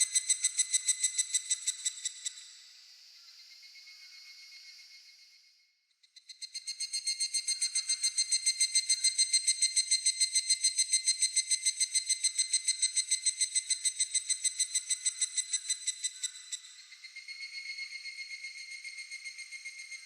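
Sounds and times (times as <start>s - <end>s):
cicada pulsed call: 0.0s - 5.2s, 6.1s - 20.0s.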